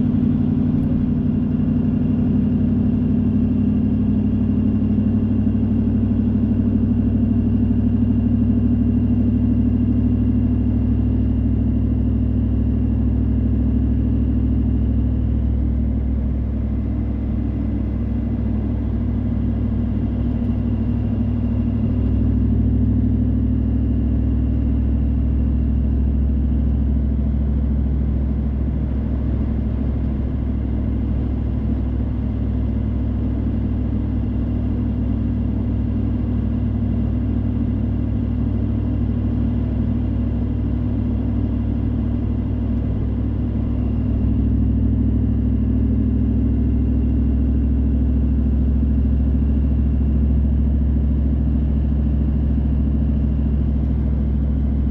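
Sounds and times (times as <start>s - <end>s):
car engine and road hum: 0.0s - 54.9s.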